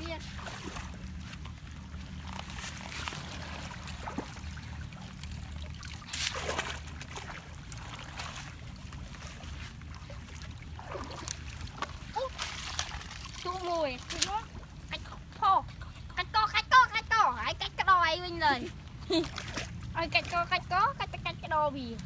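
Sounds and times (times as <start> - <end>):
water splashes: 0.0 - 22.0
water trickling and sloshing: 0.0 - 22.0.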